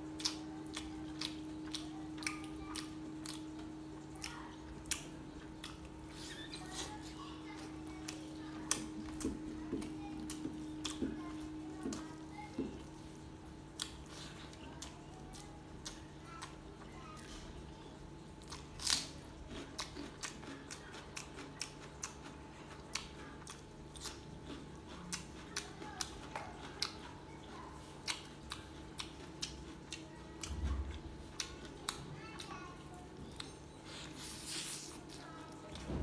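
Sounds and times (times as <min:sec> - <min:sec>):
person chewing food: 0:00.0 - 0:35.9
faint steady hum: 0:00.0 - 0:36.0.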